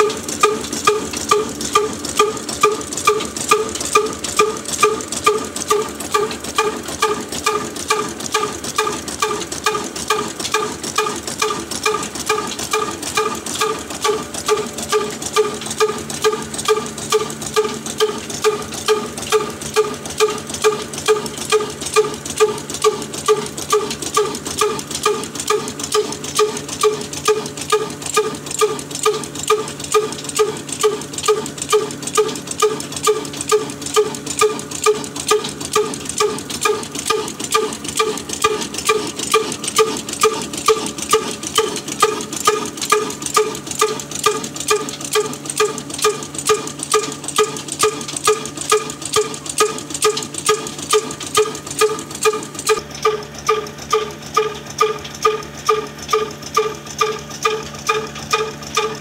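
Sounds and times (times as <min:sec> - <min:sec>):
diesel engine knocking beat: 0:00.0 - 0:59.0.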